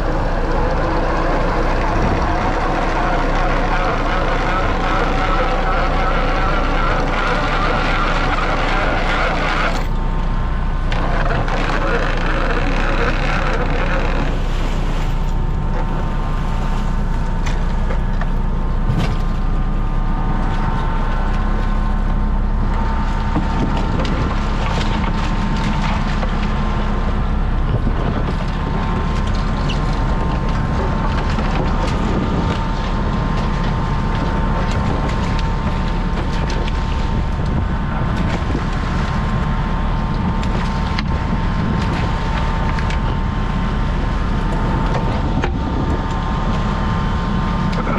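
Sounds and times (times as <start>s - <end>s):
boat engine droning: 0.0s - 47.9s
hydraulic whine: 0.0s - 47.9s.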